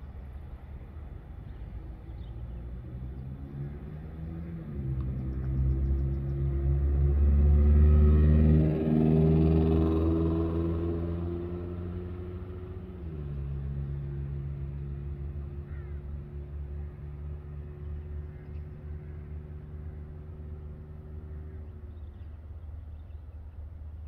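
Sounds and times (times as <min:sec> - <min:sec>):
distant engine humming: 0:00.0 - 0:24.0.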